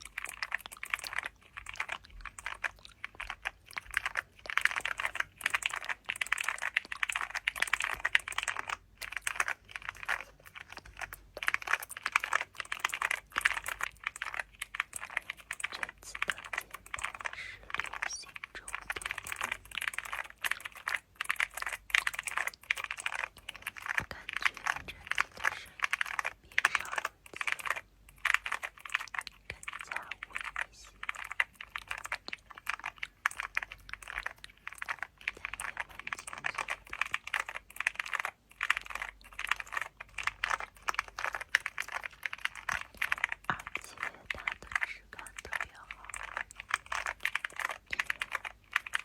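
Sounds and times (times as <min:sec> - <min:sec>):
fast keyboard typing: 0:00.0 - 0:49.0.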